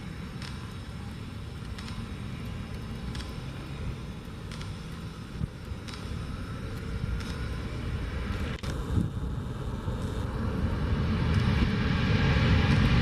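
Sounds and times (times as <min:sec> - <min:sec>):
jet engines of landing airliner: 0:00.0 - 0:13.0.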